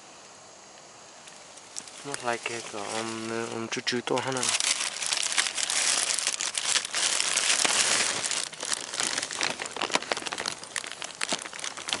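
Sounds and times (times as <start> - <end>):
plastic bag crinkling: 1.7 - 12.0.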